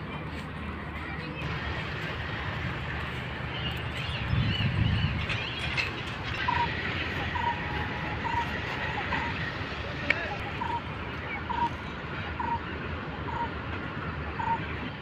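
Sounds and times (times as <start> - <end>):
birds chirping: 1.3 - 13.6, 14.3 - 15.0.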